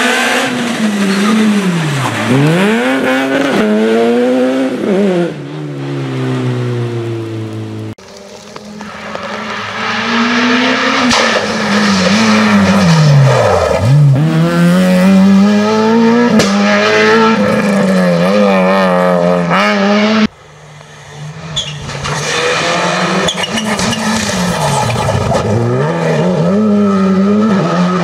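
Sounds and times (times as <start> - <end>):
rally car engine revving: 0.0 - 20.3, 21.2 - 28.0.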